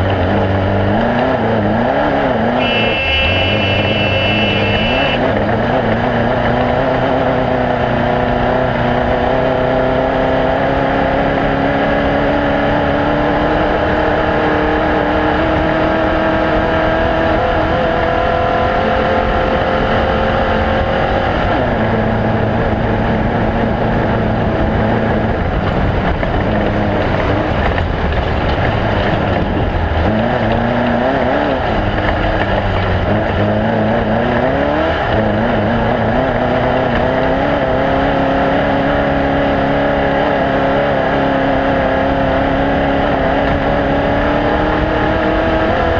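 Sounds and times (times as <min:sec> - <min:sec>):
mechanical and wind rumble: 0:00.0 - 0:02.4, 0:03.3 - 0:45.9
race vehicle engine running hard: 0:00.0 - 0:45.9.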